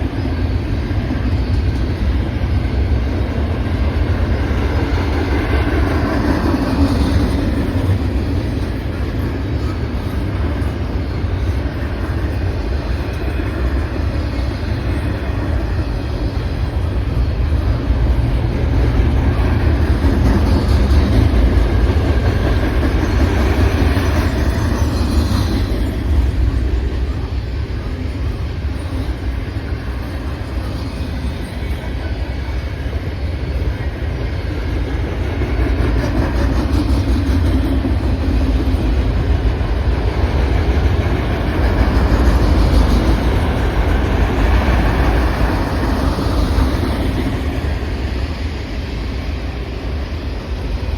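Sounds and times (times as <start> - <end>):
freight train wheels rumbling on rail: 0.0 - 50.9.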